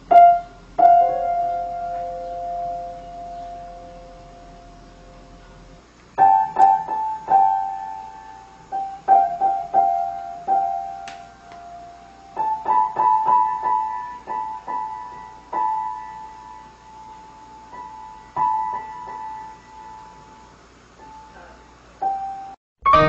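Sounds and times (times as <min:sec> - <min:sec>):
piano notes: 0:00.0 - 0:23.0.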